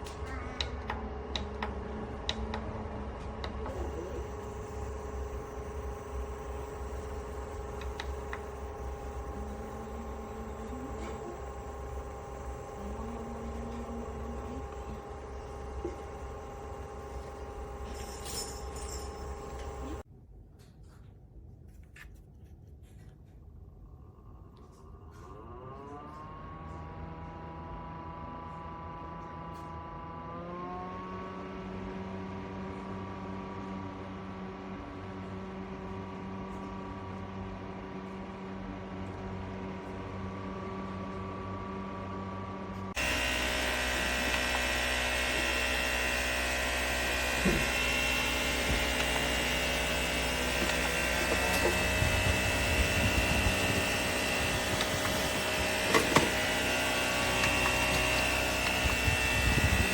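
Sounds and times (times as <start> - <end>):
electric fan motor humming: 0.0 - 20.1, 25.3 - 59.9.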